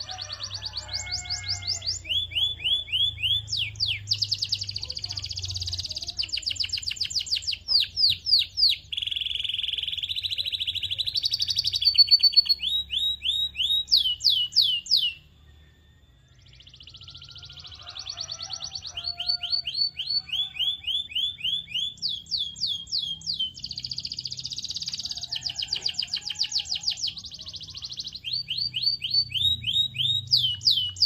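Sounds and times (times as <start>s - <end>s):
canary singing: 0.0s - 31.0s.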